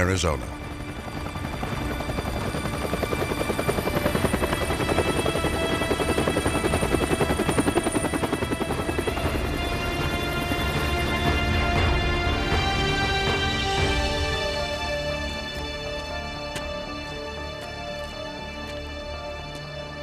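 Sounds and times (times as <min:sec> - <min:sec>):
helicopter rotor chopping: 0:00.0 - 0:20.0.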